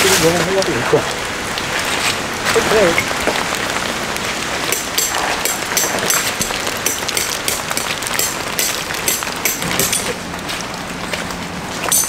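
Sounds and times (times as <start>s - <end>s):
hail hitting: 0.0s - 12.0s
heavy rain hissing: 0.0s - 12.0s.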